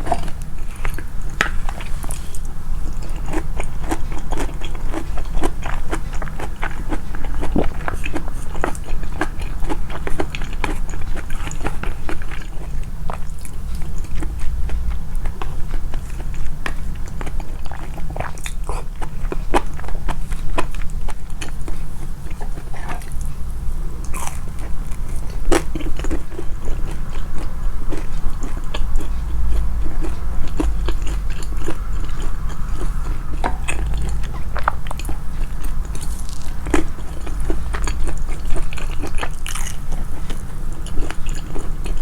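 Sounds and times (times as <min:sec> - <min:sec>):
chewing and biting food: 0:00.0 - 0:42.0
steady low hum: 0:00.0 - 0:42.0.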